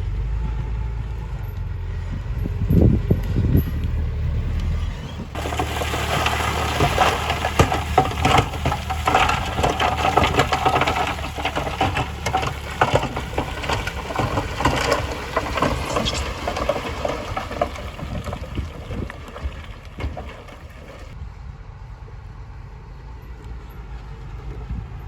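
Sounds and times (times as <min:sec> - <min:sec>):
gravel crunching and clattering: 0:00.0 - 0:21.2.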